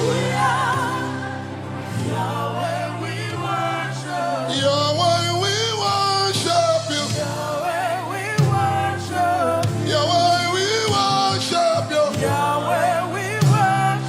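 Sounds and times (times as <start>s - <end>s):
band playing low chords: 0.0s - 14.0s.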